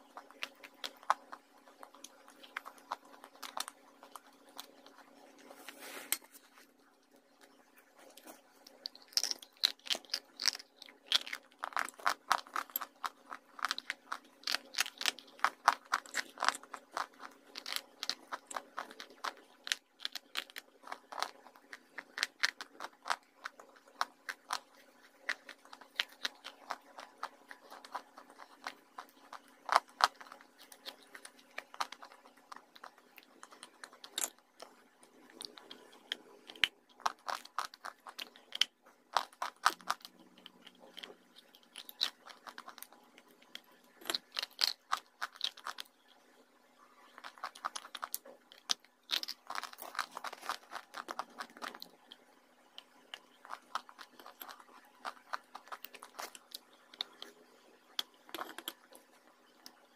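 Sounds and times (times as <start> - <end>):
crisp chewing crunches: 8.1 - 46.2, 47.0 - 58.8.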